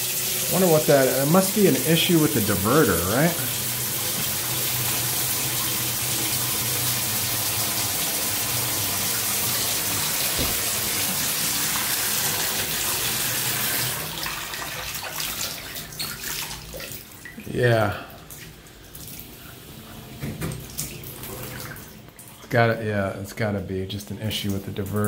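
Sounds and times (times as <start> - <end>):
shower water splashing on tile: 0.0 - 22.5
water dripping: 0.0 - 23.4.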